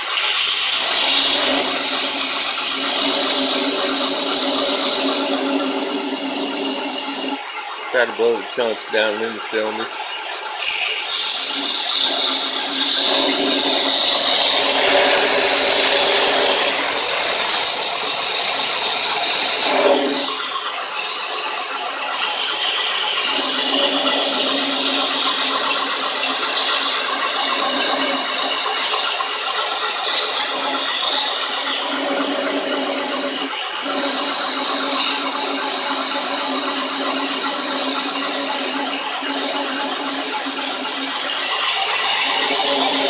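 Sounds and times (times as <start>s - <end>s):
air blow gun hissing: 0.0s - 7.4s, 10.6s - 43.0s
boring bar humming: 0.0s - 43.0s.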